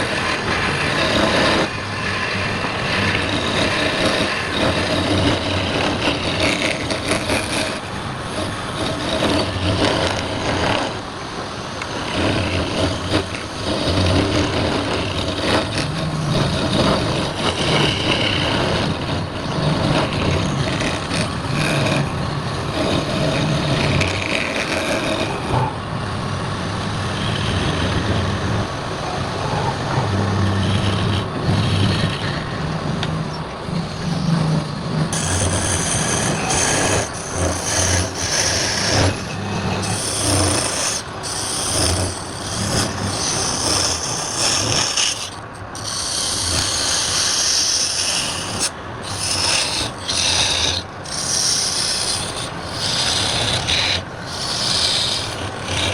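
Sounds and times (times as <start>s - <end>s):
wood lathe turning: 0.0s - 55.9s.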